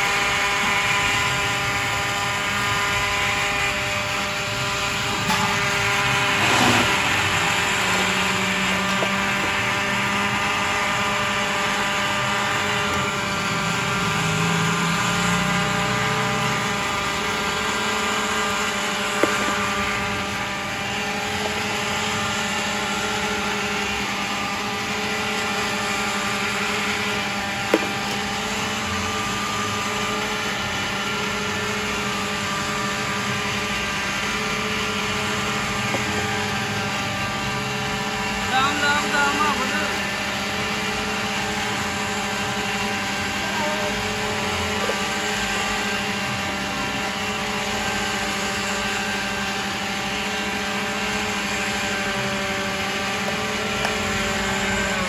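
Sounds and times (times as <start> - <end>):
blenders whirring: 0.0 - 55.0.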